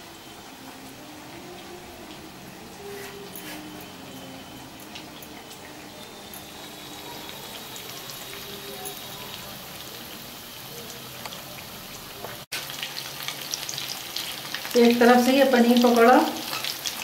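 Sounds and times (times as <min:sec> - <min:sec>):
deep-frying sizzle with crackles: 0:00.0 - 0:17.0.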